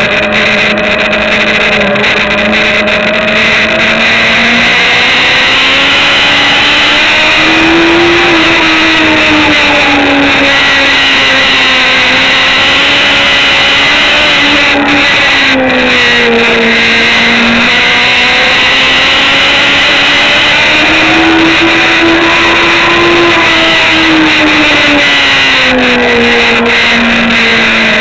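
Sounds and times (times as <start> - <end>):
racing motorcycle engine: 0.0 - 28.0
wind rush: 0.0 - 28.0.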